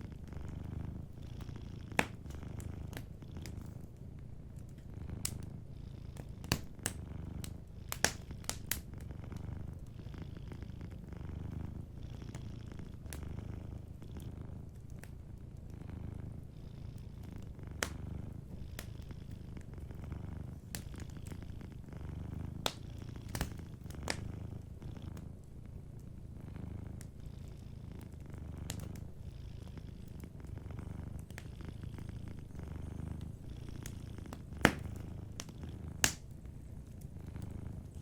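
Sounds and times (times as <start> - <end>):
cat purring: 0.0 - 38.0
fireplace crackles and pops: 0.0 - 38.0.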